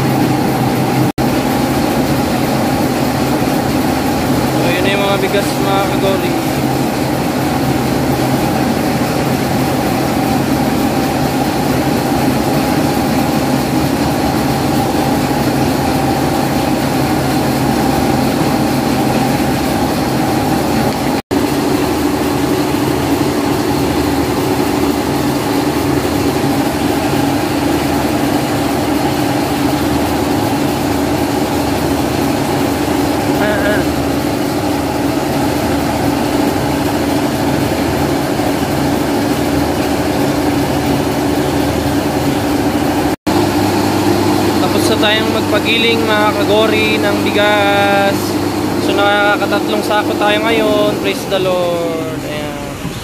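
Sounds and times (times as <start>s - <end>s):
rice mill machinery droning: 0.0s - 53.0s.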